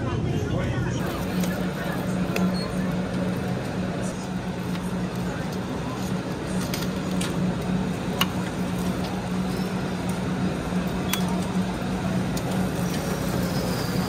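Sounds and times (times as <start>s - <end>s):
low store hum: 0.0s - 14.0s.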